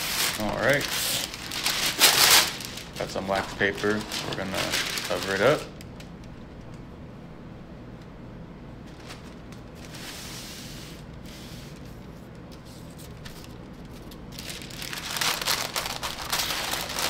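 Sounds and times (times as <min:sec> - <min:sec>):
wax paper rustling: 0:00.0 - 0:05.8, 0:08.8 - 0:17.0
faint steady hum: 0:00.0 - 0:17.0.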